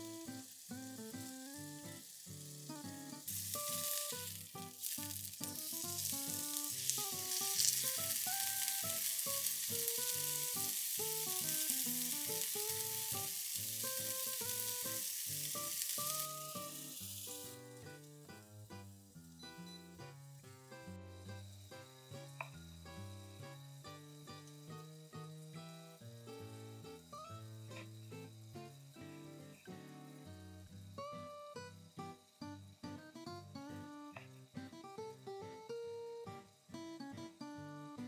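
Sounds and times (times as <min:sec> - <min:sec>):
food sizzling in a pan: 0:00.0 - 0:38.0.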